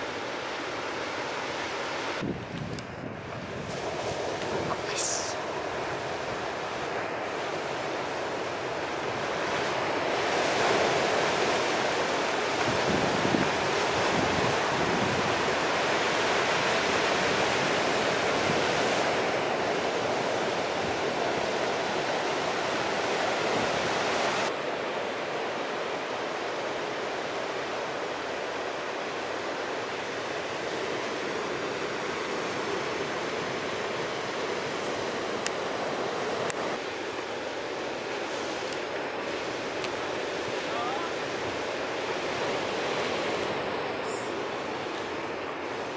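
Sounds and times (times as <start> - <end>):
breaking waves: 3.2 - 45.9.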